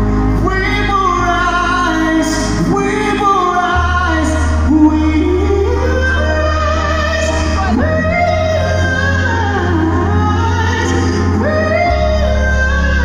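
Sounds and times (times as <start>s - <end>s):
backing track bass and keys: 0.0s - 13.0s
man singing into microphone: 0.0s - 13.0s.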